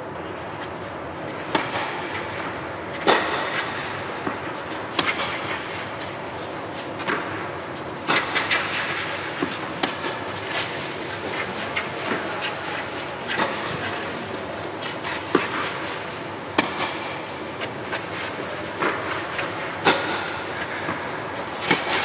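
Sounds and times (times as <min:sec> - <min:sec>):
steady background noise: 0:00.0 - 0:22.0
tennis balls struck and bouncing: 0:01.3 - 0:22.0.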